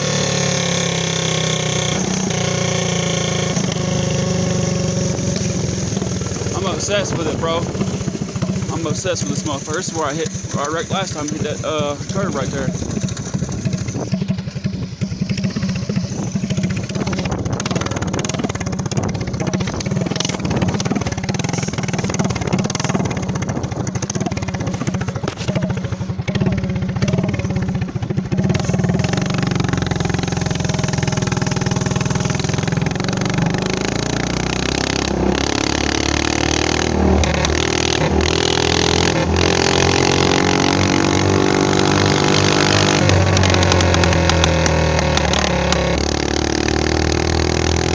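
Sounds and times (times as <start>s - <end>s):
minibike engine running: 0.0s - 47.9s.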